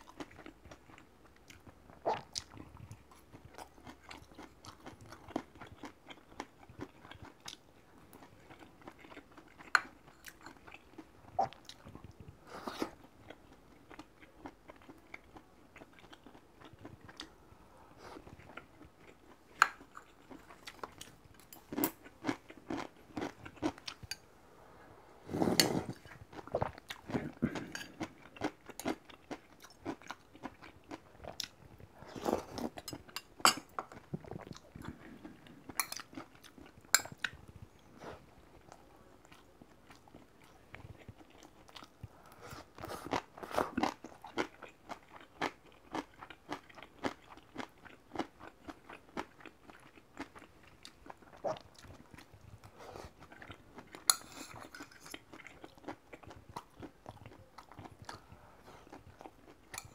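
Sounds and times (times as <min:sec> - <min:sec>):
person chewing and crunching: 0:00.0 - 0:17.4, 0:18.1 - 0:24.2, 0:25.3 - 0:59.9.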